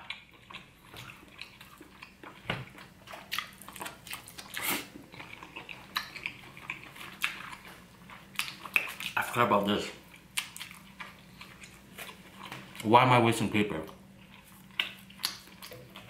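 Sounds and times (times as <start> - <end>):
person chewing: 0.0 - 12.9, 13.8 - 16.0.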